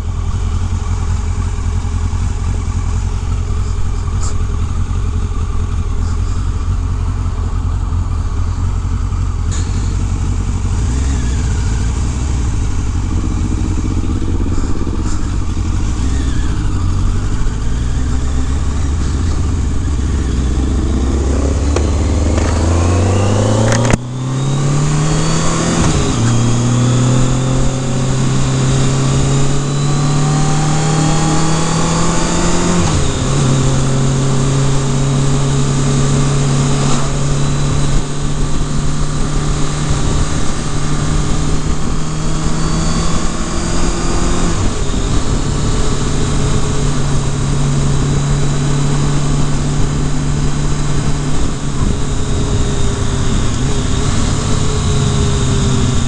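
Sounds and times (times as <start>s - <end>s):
motorcycle engine idling and accelerating: 0.0s - 56.0s
wind rushing over microphone: 10.2s - 56.0s.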